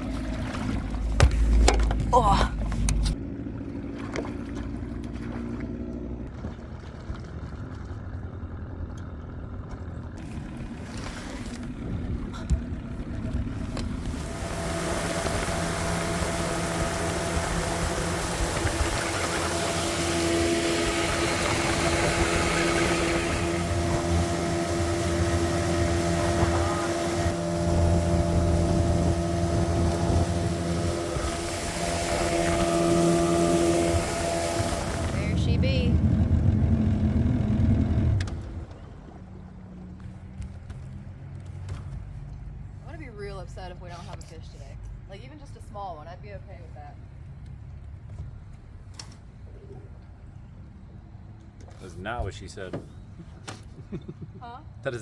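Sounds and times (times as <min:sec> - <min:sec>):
small boat motor running: 0:00.0 - 0:45.4, 0:46.5 - 0:55.0.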